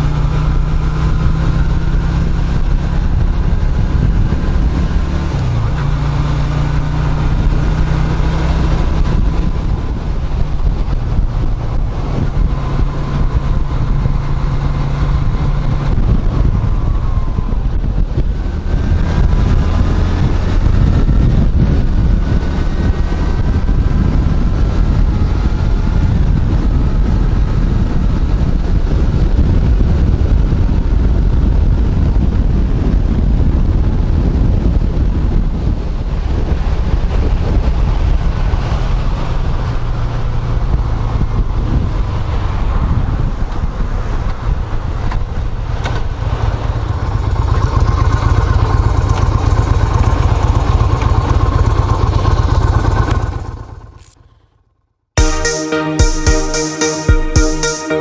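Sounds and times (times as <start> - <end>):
wind noise on microphone: 0.0 - 53.5.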